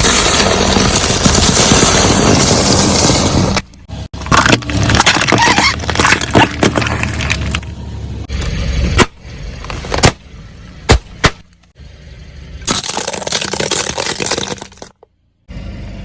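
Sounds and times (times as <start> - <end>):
objects cracking under car tyres: 0.0 - 11.6, 12.6 - 15.1.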